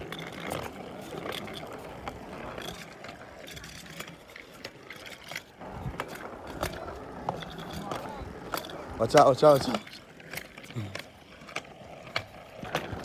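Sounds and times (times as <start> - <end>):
bicycle clicks and rattles: 0.0 - 13.0
bicycle tyres rolling on pavement: 0.0 - 13.0.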